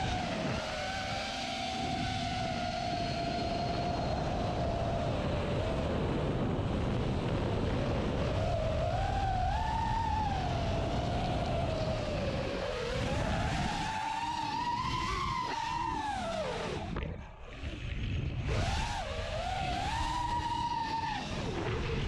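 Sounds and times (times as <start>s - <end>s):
drone motors whining: 0.0s - 22.0s
rush of wind: 0.0s - 22.0s.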